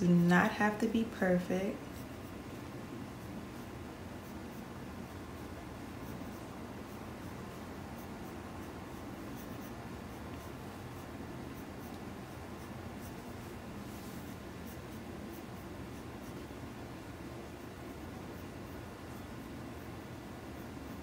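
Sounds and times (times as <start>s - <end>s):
low room hum: 0.0s - 21.0s
pencil scratching on paper: 0.0s - 21.0s.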